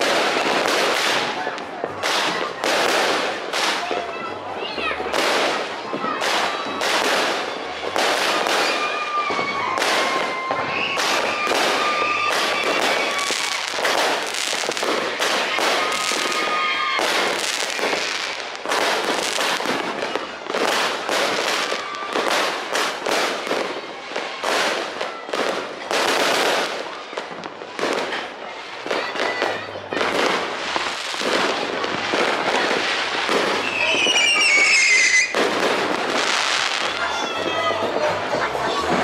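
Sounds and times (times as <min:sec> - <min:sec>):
firecrackers cracking and popping: 0:00.0 - 0:39.0.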